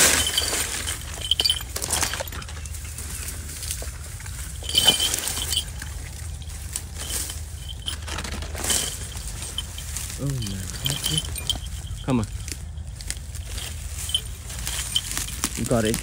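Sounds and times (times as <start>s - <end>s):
brush rustling and crackling: 0.0s - 16.0s
light metallic jingles: 0.0s - 16.0s.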